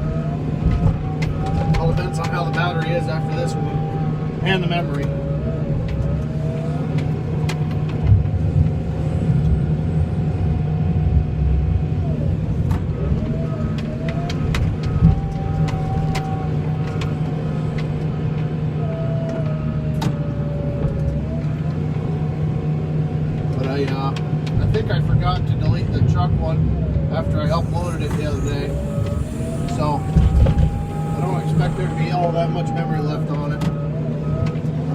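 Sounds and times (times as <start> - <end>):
vehicle engine running: 0.0 - 34.9
whining tone: 0.0 - 34.9.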